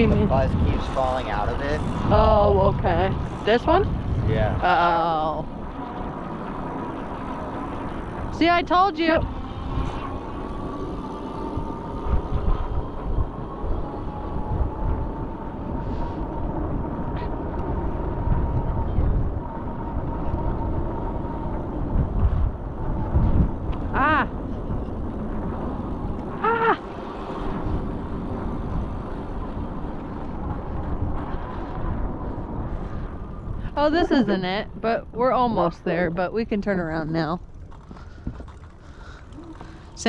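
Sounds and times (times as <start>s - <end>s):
electric motor whine: 0.0s - 34.6s
wind buffeting microphone: 0.0s - 40.0s.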